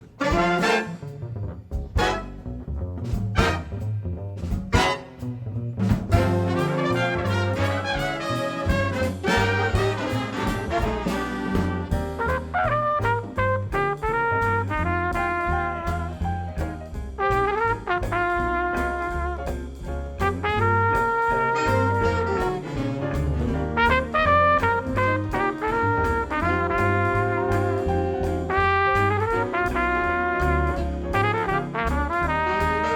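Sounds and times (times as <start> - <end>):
big band jazz swing: 0.0 - 32.9.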